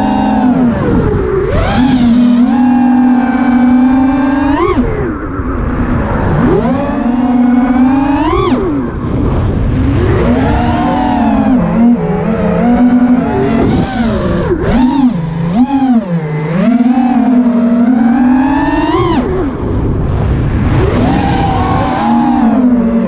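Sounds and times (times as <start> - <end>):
drone motors whining: 0.0 - 23.0
rushing noise: 0.0 - 23.0.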